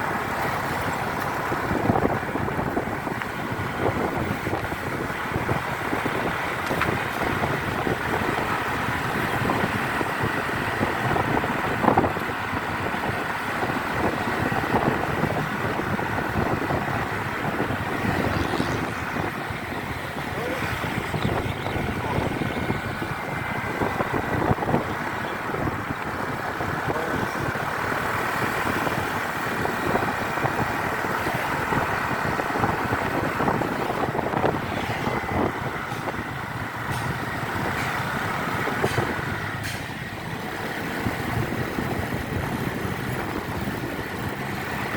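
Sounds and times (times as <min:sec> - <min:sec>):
bus engine and road noise: 0:00.0 - 0:44.9
wind buffeting microphone: 0:00.0 - 0:44.9.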